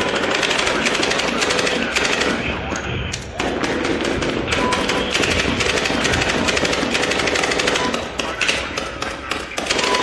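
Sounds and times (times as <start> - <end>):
machine gun firing: 0.0 - 10.0.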